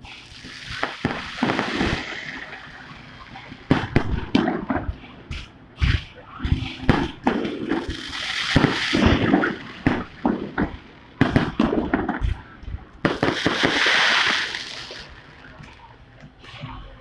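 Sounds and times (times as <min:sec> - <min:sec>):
fireworks bangs: 0:00.0 - 0:05.0, 0:05.8 - 0:15.9
fireworks crackling hiss: 0:00.0 - 0:17.0.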